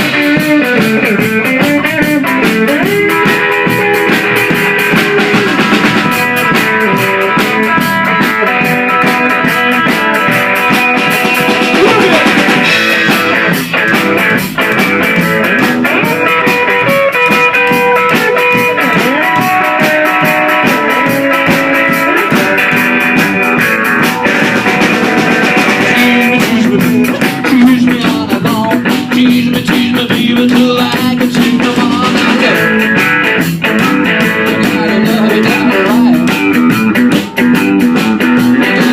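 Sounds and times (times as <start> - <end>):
rock music: 0.0 - 38.9.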